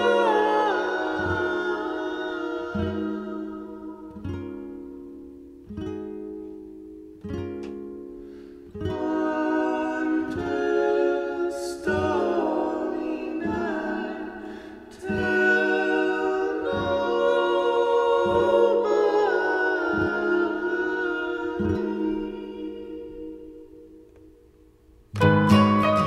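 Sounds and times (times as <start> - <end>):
slow song with sustained singing: 0.0 - 5.1, 8.6 - 24.7.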